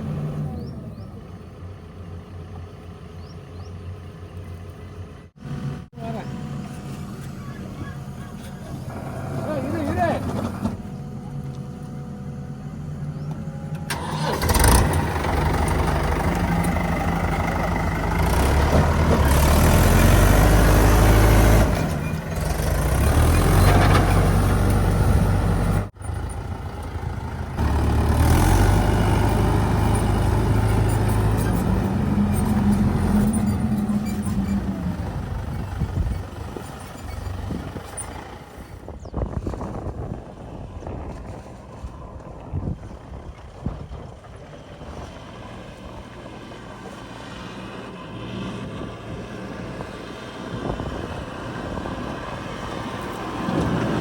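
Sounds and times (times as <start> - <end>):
diesel engine revving: 0.0 - 4.2, 5.3 - 39.8, 43.1 - 54.0.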